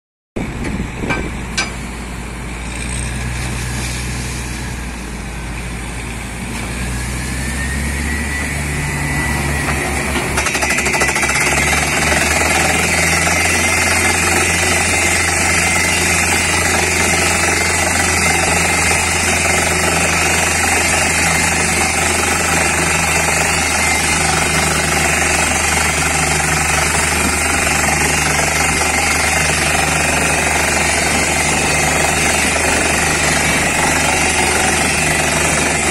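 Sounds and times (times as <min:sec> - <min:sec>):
drill rig engine and compressor: 0:00.4 - 0:35.9.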